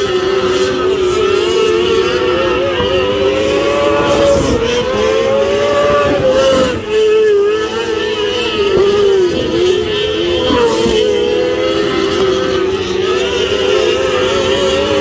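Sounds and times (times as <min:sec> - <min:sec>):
race car engines: 0:00.0 - 0:15.0
race car passing close: 0:00.0 - 0:15.0.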